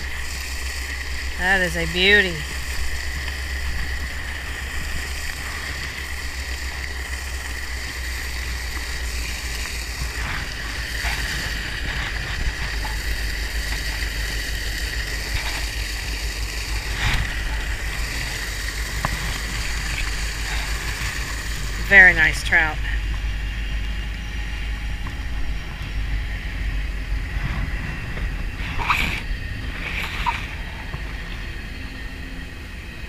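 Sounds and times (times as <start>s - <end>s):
fish splashing: 0.0s - 23.8s, 25.3s - 31.8s
water rushing into a creek: 0.0s - 23.9s, 24.6s - 33.0s
wind rumble on microphone: 0.0s - 33.0s.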